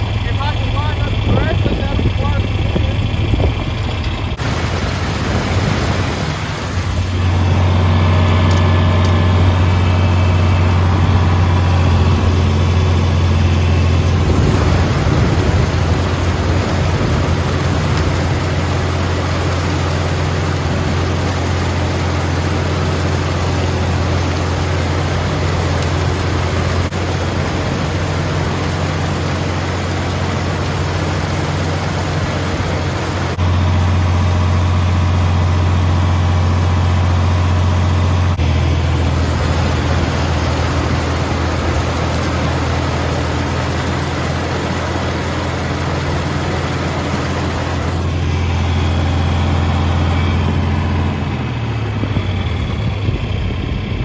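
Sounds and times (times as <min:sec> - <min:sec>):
corn picker machinery clatter: 0:00.0 - 0:33.4, 0:38.4 - 0:50.6
tractor engine running: 0:00.0 - 0:54.0.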